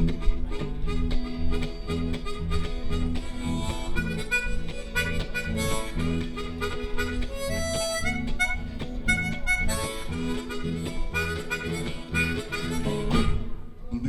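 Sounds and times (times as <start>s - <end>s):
harmonica wailing: 0.0s - 13.7s
blues band playing: 0.0s - 13.8s.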